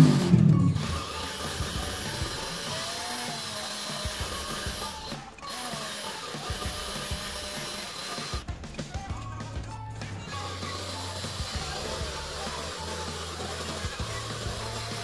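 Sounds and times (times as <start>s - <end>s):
cordless drill running: 0.0s - 8.5s, 10.3s - 15.0s.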